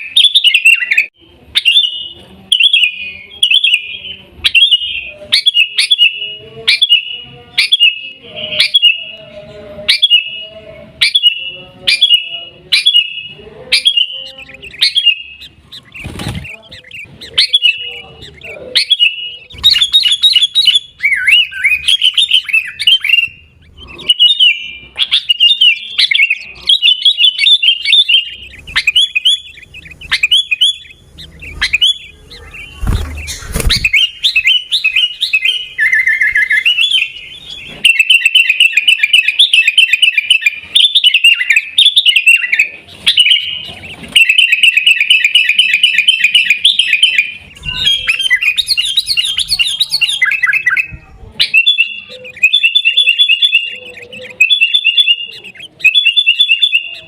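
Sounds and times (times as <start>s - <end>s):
bulbul singing chattering chirps: 0.0s - 57.0s.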